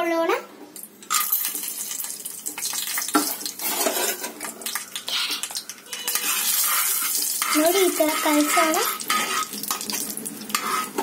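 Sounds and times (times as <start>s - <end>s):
nuts sizzling in hot oil: 1.0s - 11.0s.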